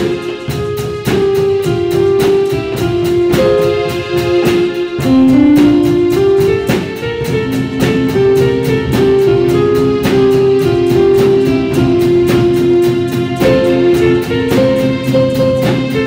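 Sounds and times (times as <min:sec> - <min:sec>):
drum kit: 0:00.0 - 0:16.0
hand drums: 0:00.0 - 0:16.0.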